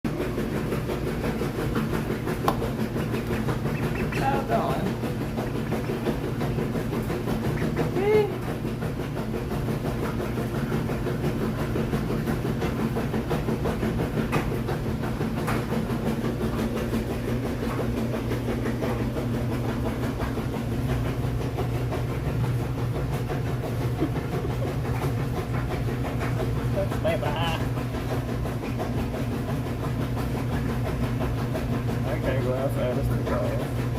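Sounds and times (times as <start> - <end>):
mechanical drone with low hum: 0.1 - 33.9.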